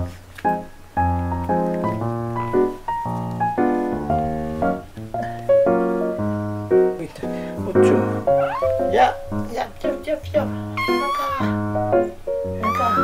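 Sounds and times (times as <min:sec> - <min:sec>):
light piano tune: 0:00.0 - 0:13.0.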